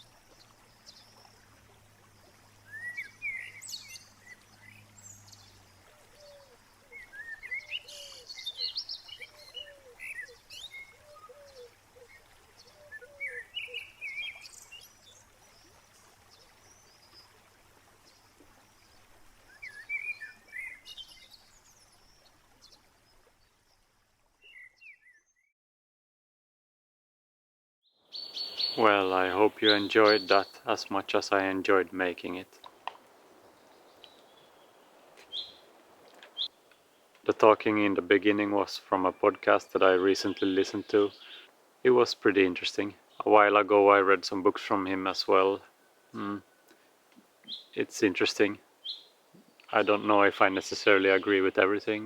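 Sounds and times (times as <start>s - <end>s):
birds chirping song: 0.0s - 17.4s, 18.0s - 23.8s, 24.4s - 25.5s, 27.8s - 52.0s.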